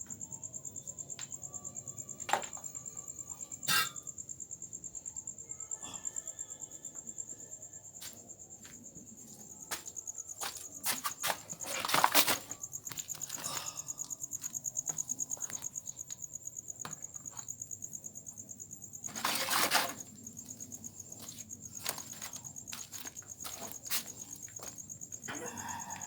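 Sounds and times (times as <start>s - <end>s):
cricket trilling: 0.0s - 26.0s.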